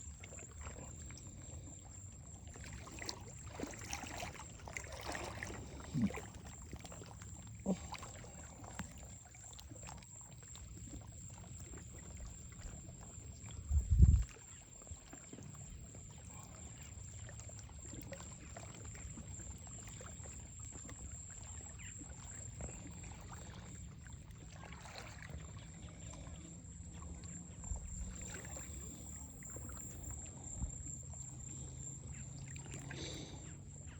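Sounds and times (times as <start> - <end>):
shoreline water: 0.0 - 33.9.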